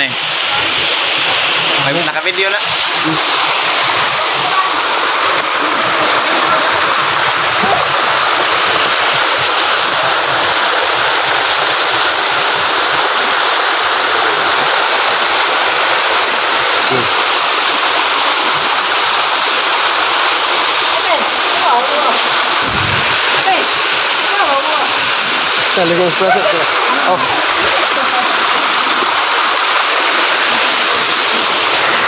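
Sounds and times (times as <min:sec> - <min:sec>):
water pouring over rocks: 0:00.0 - 0:32.0.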